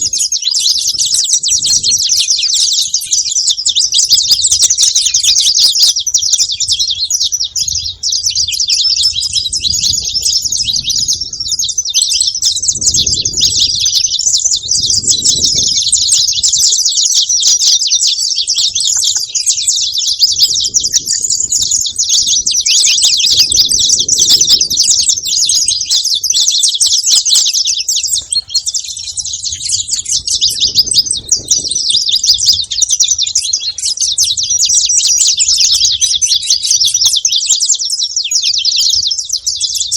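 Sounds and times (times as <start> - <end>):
finch singing high chirps and trills: 0.0 - 39.9.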